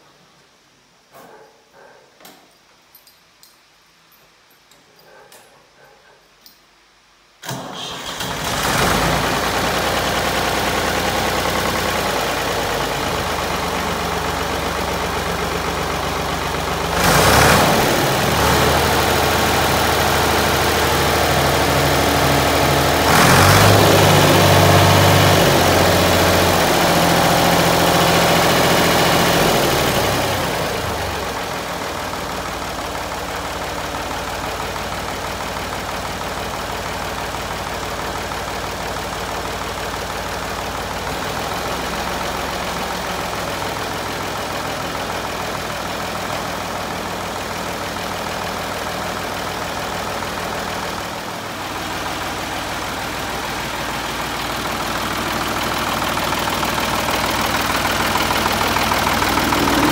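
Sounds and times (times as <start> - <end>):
diesel tractor engine starting and revving: 7.4 - 59.9.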